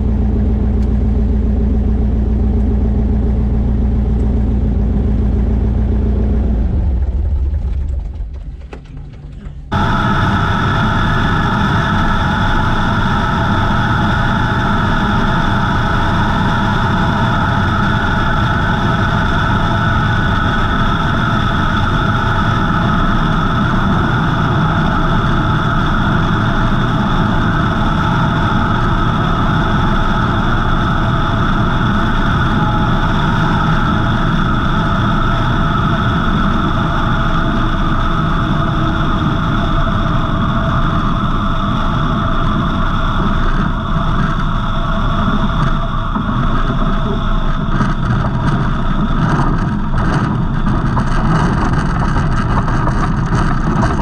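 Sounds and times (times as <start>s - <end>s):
light aircraft engine and propeller: 0.0s - 54.0s
rushing airflow: 0.0s - 54.0s.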